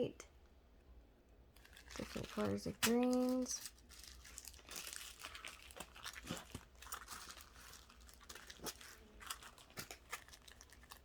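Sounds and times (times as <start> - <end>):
plastic bags crinkling: 1.5 - 11.0.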